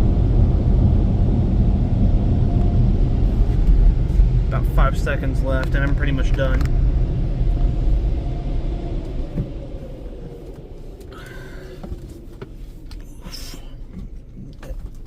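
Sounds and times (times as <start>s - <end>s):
car wash dryer blowers: 0.0s - 15.0s.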